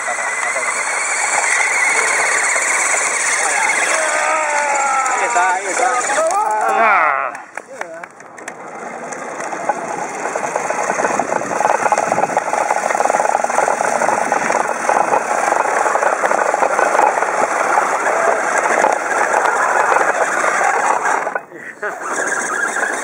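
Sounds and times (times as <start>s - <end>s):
toy tractor motor whirring: 0.0s - 23.0s.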